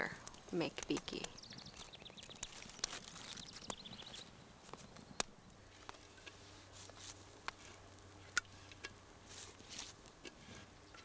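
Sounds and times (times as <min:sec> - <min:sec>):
batter crackling on hot stone: 0:00.0 - 0:11.0.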